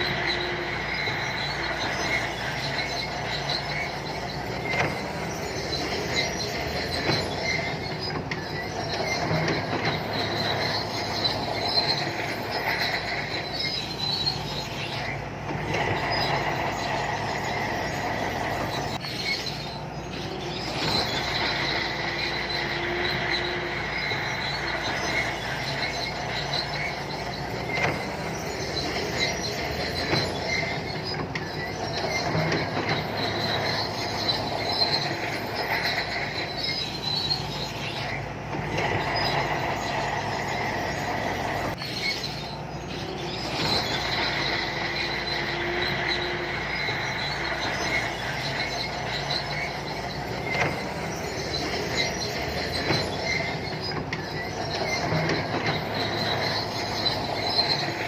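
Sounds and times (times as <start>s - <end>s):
diesel engine under load: 0.0s - 58.0s
high screech: 0.0s - 58.0s
steel tracks squealing: 0.0s - 58.0s.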